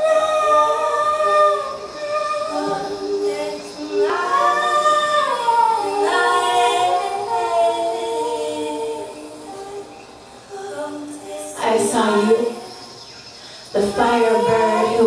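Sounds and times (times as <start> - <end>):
woman singing wordless notes: 0.0 - 12.9, 13.7 - 15.0.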